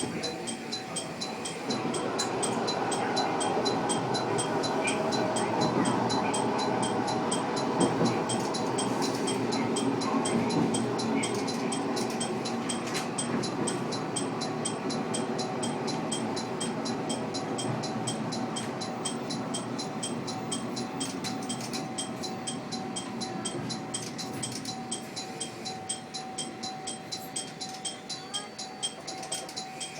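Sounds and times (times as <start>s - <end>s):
diesel train rumbling: 0.0s - 29.9s.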